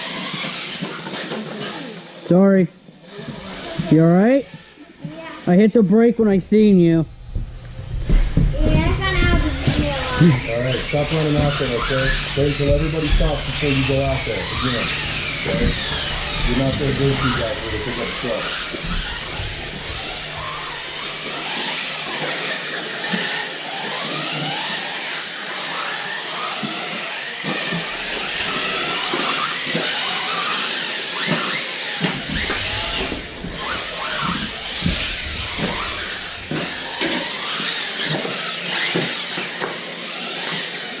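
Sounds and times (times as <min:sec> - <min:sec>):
electric motors whining: 0:00.0 - 0:41.0.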